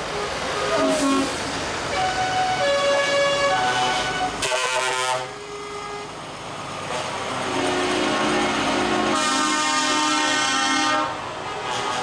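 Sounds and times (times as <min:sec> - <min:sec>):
truck engines: 0:00.0 - 0:12.0
truck air horns: 0:00.1 - 0:01.4, 0:02.0 - 0:06.1, 0:06.9 - 0:12.0.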